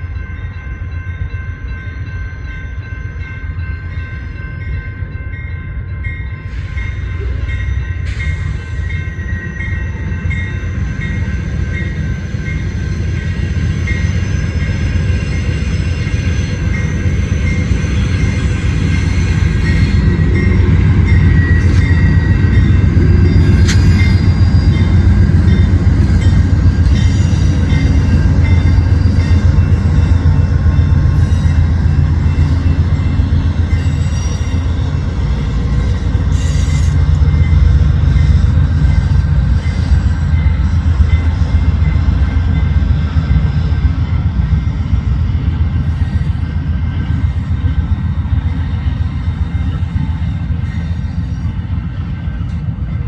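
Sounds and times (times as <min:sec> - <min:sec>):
train rumbling past: 0:00.0 - 0:53.0
wheels squealing on rails: 0:02.0 - 0:53.0.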